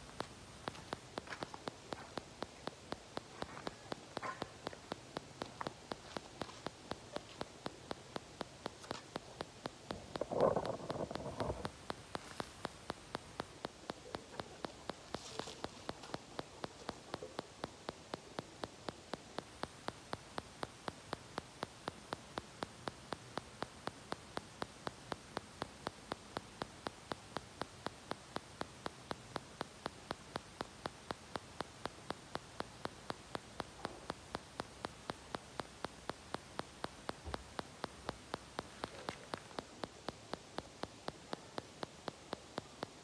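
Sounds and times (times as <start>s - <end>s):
sharp clicks: 0.0s - 43.0s
steady hiss: 0.0s - 43.0s.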